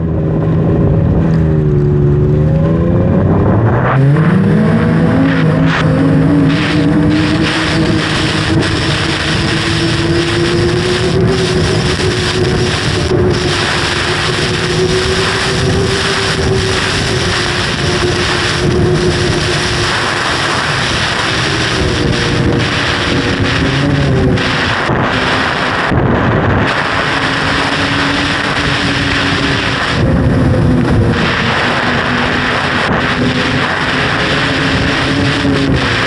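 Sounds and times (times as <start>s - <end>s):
snowmobile engine running: 0.0s - 36.0s
wind rush on microphone: 0.0s - 36.0s.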